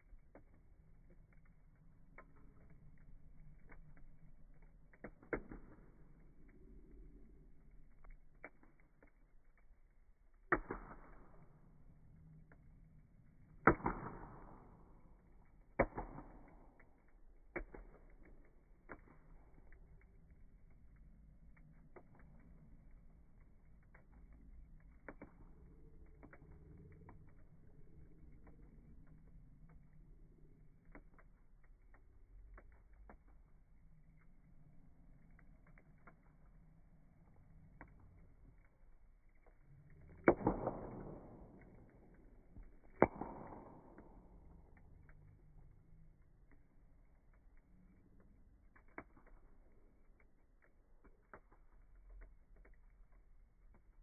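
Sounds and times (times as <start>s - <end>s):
campfire wood popping: 0.0s - 54.0s
faint low fire hiss: 0.0s - 54.0s.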